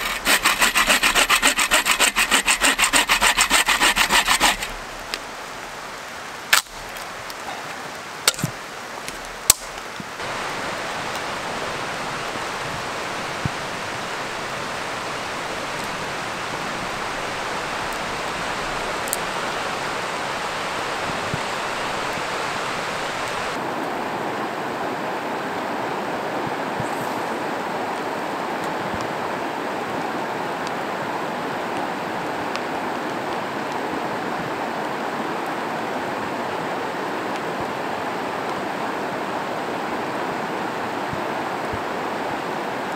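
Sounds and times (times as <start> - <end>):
river running over rapids: 0.0 - 42.9.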